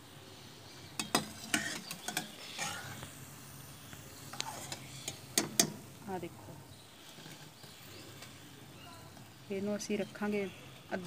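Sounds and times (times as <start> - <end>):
frying in hot oil sizzle: 0.0 - 11.0.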